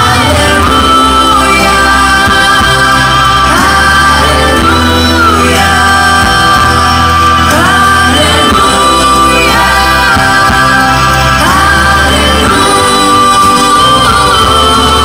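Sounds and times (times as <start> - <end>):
backing music with bass line: 0.0 - 15.0
female lead vocalist singing: 0.0 - 15.0
girls' choir singing: 0.0 - 15.0.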